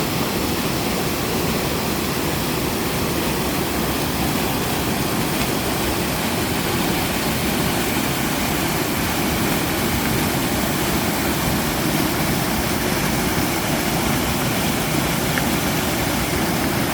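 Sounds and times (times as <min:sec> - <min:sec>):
waterfall pouring into pool: 0:00.0 - 0:16.9.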